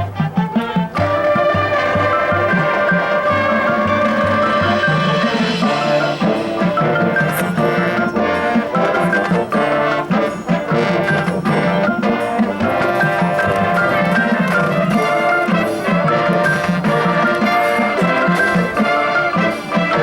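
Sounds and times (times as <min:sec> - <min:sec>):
brass chords: 0:00.0 - 0:20.0
drums: 0:00.0 - 0:20.0
marimbas and mallet percussion: 0:00.0 - 0:20.0.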